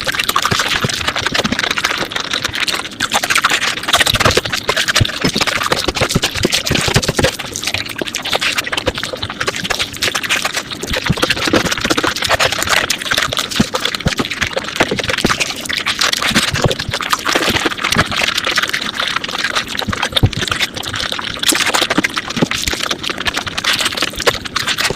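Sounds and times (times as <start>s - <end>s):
rapid wet chewing: 0.0s - 24.9s.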